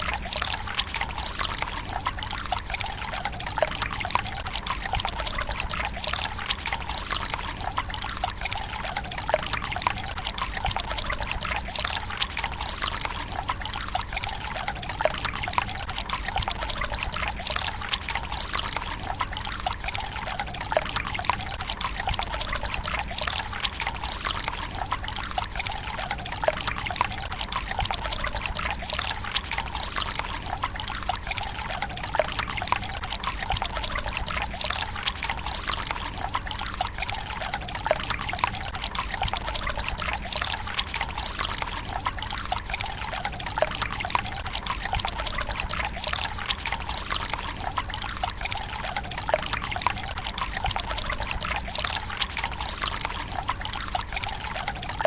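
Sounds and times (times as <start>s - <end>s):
water trickling into stone basin: 0.0s - 55.0s.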